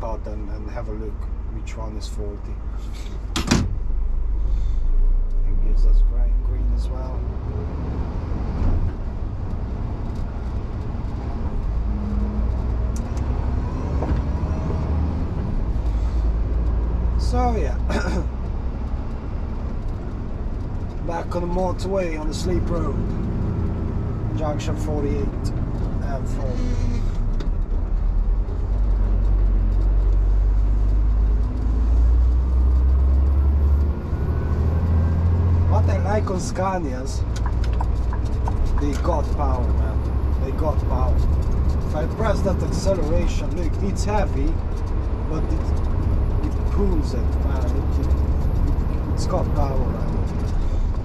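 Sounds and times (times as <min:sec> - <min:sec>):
diesel engine drone: 0:00.0 - 0:51.0
road noise: 0:00.0 - 0:51.0.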